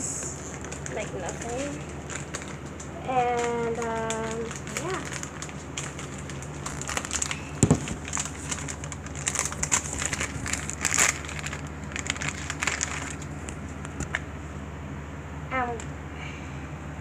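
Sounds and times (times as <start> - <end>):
foil wrapper crinkling: 0.2 - 14.3.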